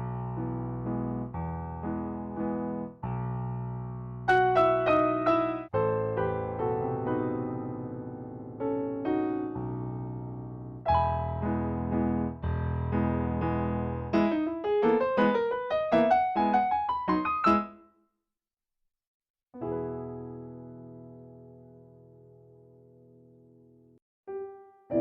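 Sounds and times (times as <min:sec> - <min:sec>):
solo piano music: 0:00.0 - 0:18.0, 0:19.6 - 0:25.0.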